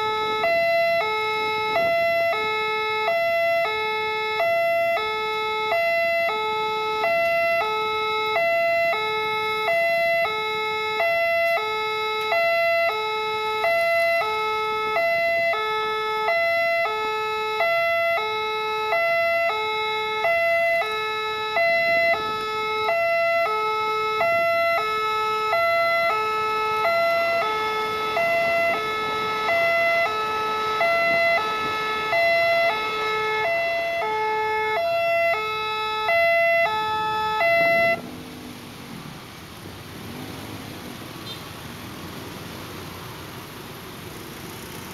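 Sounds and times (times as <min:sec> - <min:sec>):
level crossing alarm two-tone: 0:00.0 - 0:38.0.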